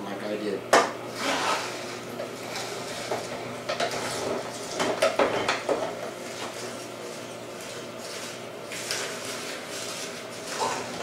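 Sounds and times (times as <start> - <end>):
faint motor hum: 0.0 - 11.0.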